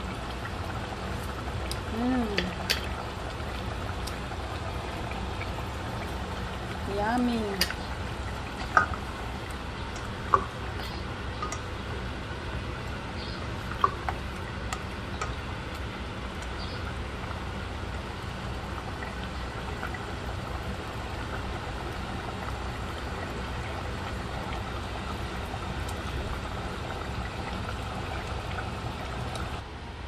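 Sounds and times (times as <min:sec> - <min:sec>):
stew bubbling in a pot: 0:00.0 - 0:29.7
low steady hum: 0:00.0 - 0:30.0.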